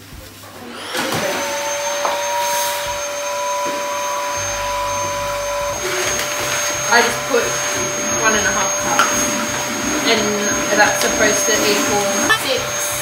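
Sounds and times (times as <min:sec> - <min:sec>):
vacuum cleaner motor running: 0:00.0 - 0:13.0.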